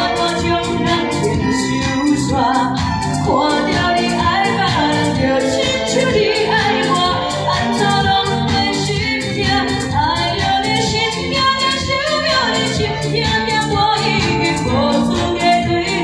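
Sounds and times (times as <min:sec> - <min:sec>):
live band playing: 0:00.0 - 0:16.0
woman singing into microphone: 0:00.0 - 0:16.0.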